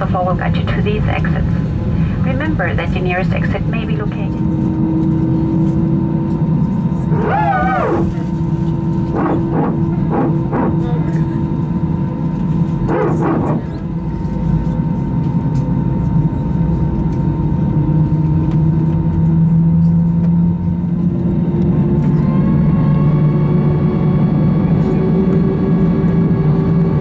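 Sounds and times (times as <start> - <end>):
airplane cabin hum: 0.0 - 27.0
low rumble: 0.0 - 27.0.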